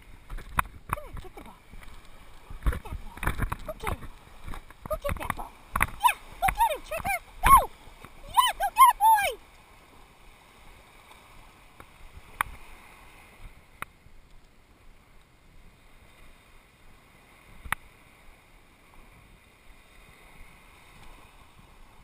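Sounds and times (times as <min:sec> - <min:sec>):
small waves washing onto shore: 0:00.0 - 0:22.0
wind: 0:00.0 - 0:22.0.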